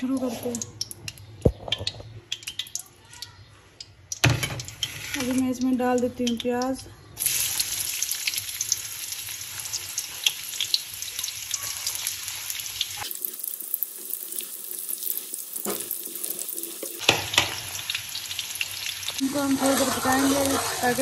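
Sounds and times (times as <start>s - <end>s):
oil crackling and popping: 0.0s - 21.0s
onions sizzling in hot oil: 4.1s - 21.0s.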